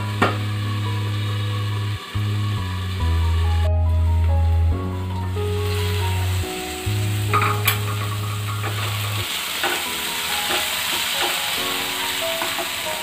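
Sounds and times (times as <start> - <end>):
background music with low bass: 0.0 - 13.0
vegetables sizzling in oil: 0.0 - 13.0.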